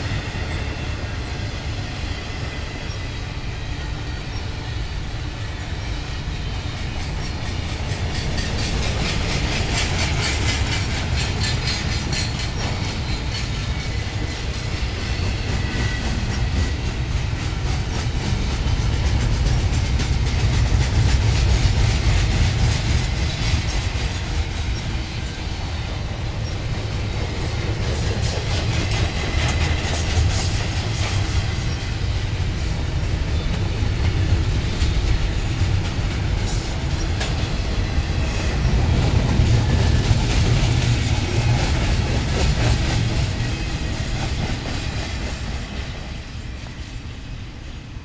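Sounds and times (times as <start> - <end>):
freight train rumbling past: 0.0 - 48.0
wheels clicking on rails: 6.5 - 46.8.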